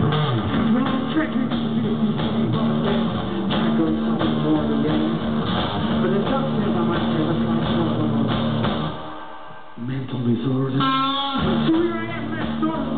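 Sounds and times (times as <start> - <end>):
live rock music: 0.0 - 12.9.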